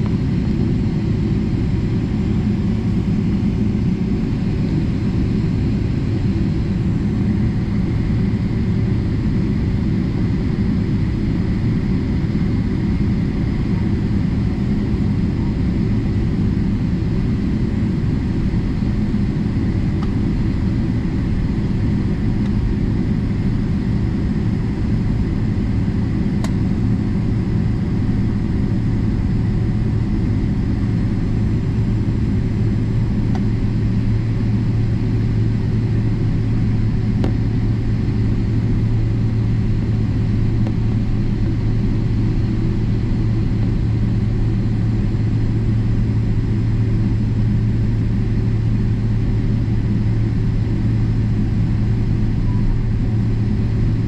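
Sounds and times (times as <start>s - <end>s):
faint steady hum: 0.0s - 54.0s
jet engines rumbling: 0.0s - 54.0s.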